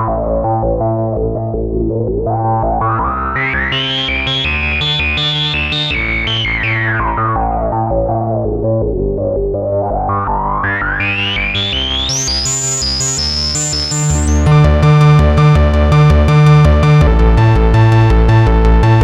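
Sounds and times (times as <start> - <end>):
synthesizer bass pattern: 0.0 - 19.0.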